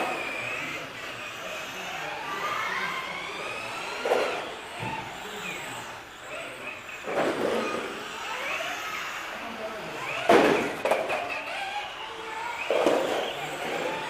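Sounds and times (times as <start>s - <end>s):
rc car motors whining: 0.0s - 14.0s.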